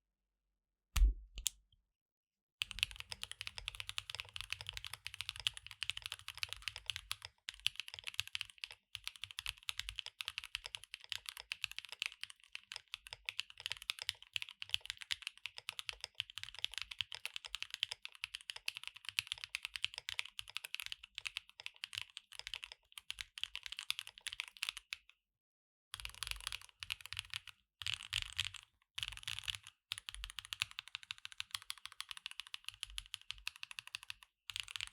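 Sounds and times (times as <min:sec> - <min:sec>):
mechanical keyboard typing: 0:02.6 - 0:24.8, 0:26.0 - 0:34.9.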